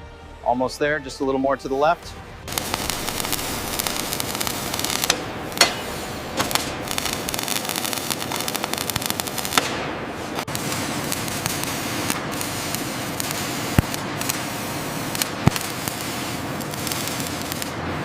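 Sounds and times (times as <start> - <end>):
crackling hiss with pops: 2.5 - 17.9.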